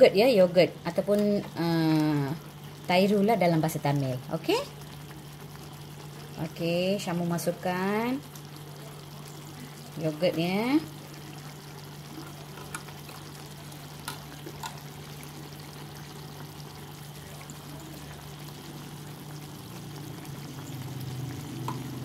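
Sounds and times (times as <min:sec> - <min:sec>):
sauce bubbling in a wok: 0:00.0 - 0:22.0.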